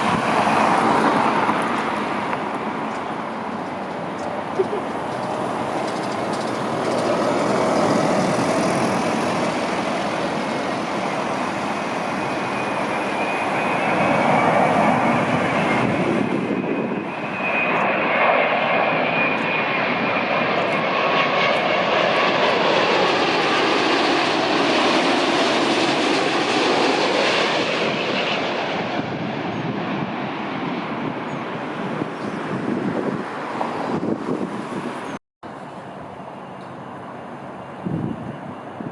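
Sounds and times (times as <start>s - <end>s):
airliner jet engines roaring: 0.0s - 38.9s.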